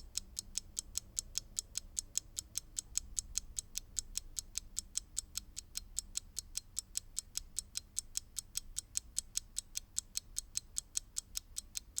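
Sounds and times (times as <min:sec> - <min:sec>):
mechanical clock ticking: 0:00.0 - 0:12.0.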